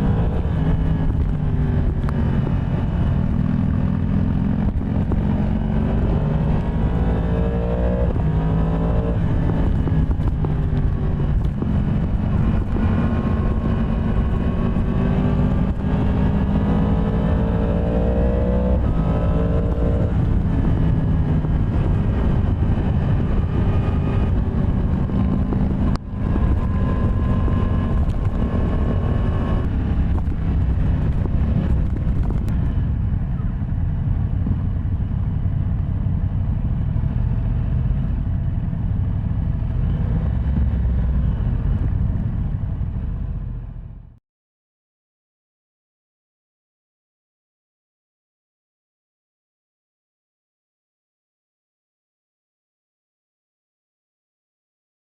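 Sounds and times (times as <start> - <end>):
motorcycle engine revving: 0.0 - 44.2.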